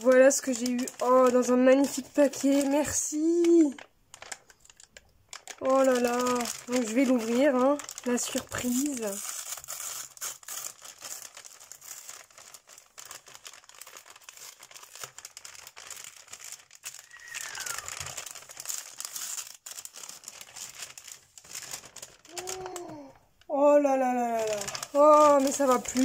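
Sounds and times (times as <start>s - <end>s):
tissue paper crinkling: 0.0s - 26.0s.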